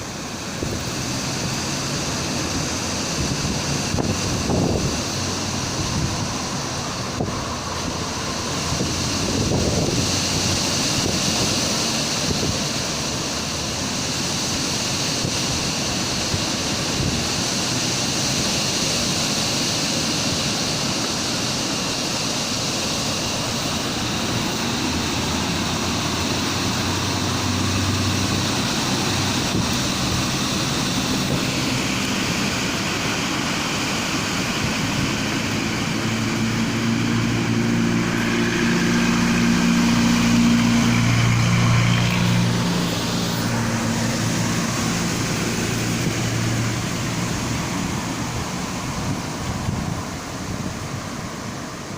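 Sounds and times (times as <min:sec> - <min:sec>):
strong wind blowing: 0:00.0 - 0:51.9.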